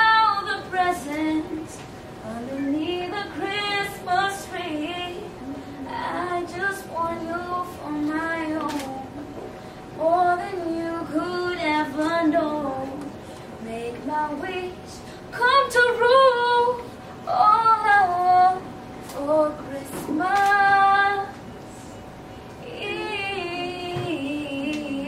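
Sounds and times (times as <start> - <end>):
girl singing: 0.0 - 9.2, 10.0 - 21.4, 22.6 - 25.0.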